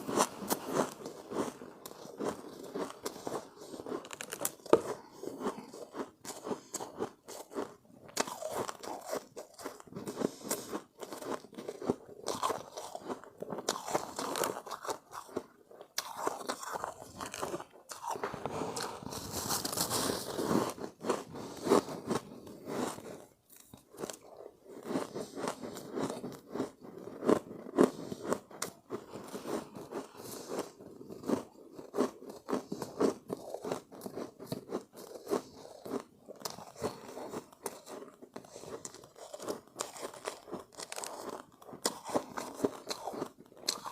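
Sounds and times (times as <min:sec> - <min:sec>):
chewing crunchy ice: 0:00.0 - 0:43.9.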